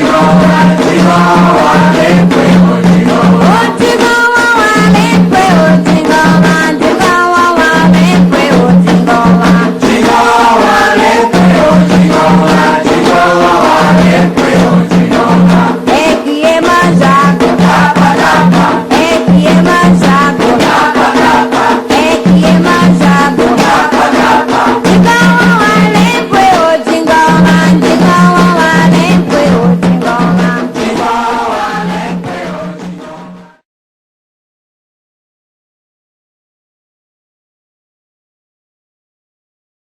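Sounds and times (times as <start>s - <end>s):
steady percussion: 0.0s - 33.6s
voices singing a chant: 0.0s - 33.6s.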